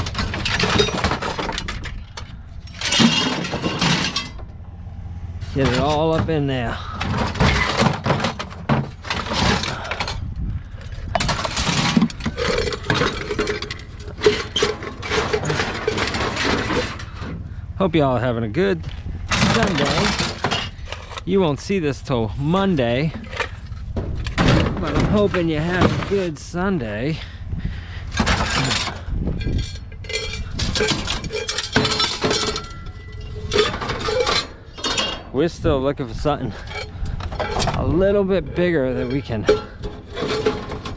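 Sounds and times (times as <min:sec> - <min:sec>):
scrap metal clinking and knocking: 0:00.0 - 0:04.6, 0:05.4 - 0:17.5, 0:18.8 - 0:21.3, 0:22.5 - 0:26.4, 0:28.1 - 0:35.4, 0:36.2 - 0:40.9.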